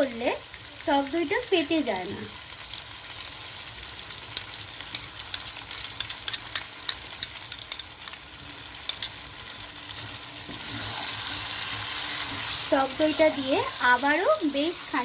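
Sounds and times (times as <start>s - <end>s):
chicken sizzling in oil: 0.0s - 15.0s
oil crackling and popping: 2.5s - 15.0s.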